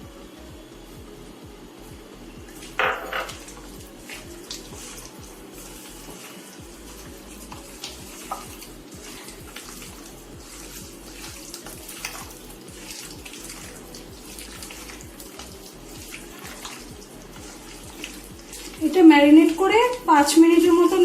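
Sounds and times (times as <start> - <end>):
wet squelches of hand mixing: 2.5 - 21.0.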